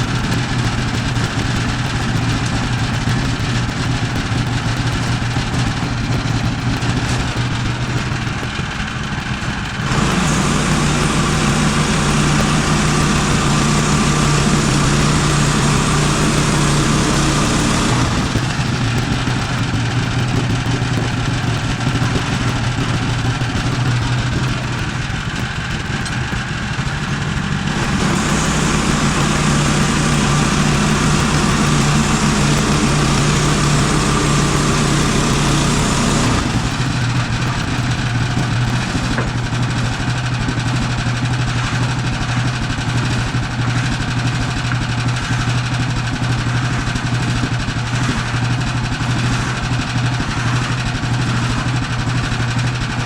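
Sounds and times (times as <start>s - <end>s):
gasoline engine running: 0.0s - 53.0s.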